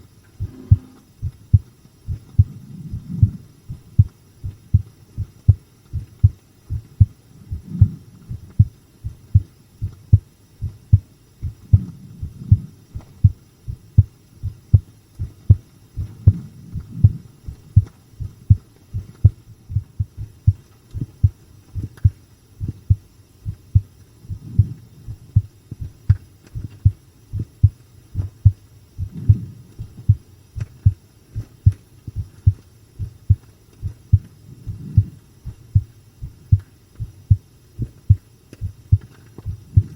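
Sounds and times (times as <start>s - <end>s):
human heartbeat: 0.4s - 39.9s.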